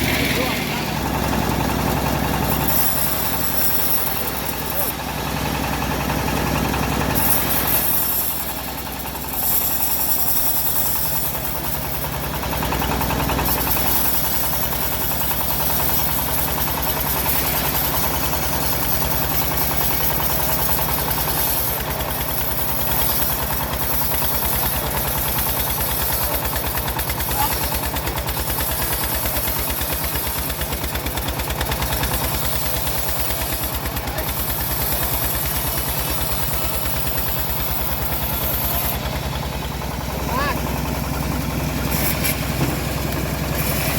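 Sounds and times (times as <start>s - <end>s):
engine humming: 0.0s - 24.3s, 30.8s - 43.9s
saw blade cutting wood: 0.0s - 43.9s.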